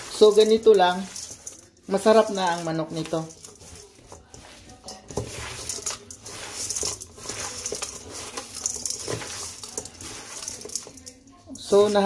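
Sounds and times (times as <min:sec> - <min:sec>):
wet squishing and rustling of herbs: 0:00.0 - 0:12.0.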